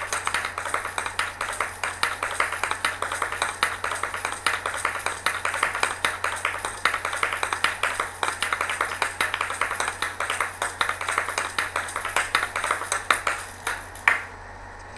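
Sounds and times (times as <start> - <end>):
seed-filled shells rattling and clacking: 0.0 - 14.3.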